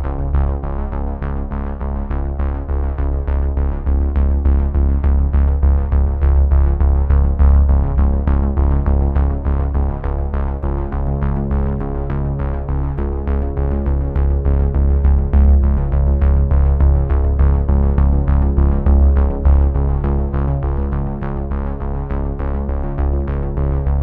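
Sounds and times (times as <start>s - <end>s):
held synthesizer bass: 0.0s - 24.0s.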